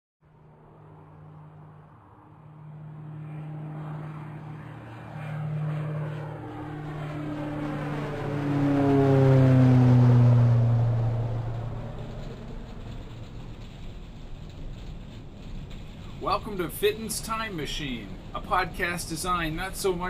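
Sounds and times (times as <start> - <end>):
low engine-like drone: 0.2 - 20.0.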